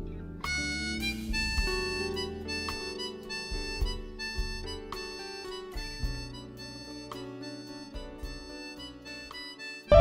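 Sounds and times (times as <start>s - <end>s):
loud guitar music: 0.0s - 10.0s
quiet instrumental music: 0.0s - 10.0s.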